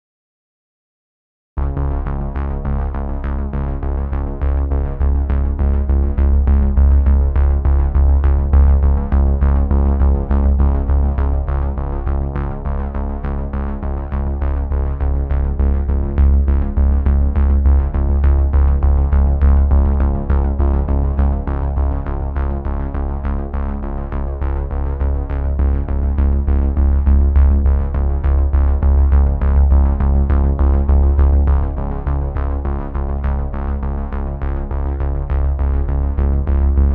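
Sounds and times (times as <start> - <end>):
instrumental music with pulsing beat: 1.6 - 36.9.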